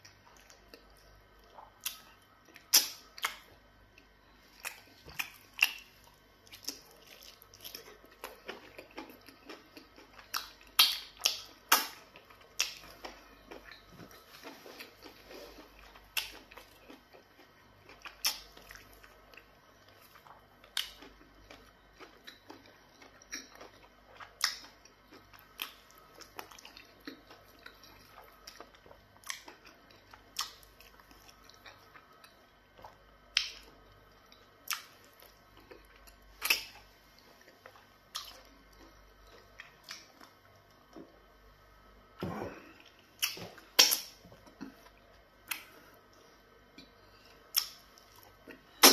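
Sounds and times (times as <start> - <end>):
man chewing and lip-smacking: 0.1 - 41.1, 42.9 - 48.9.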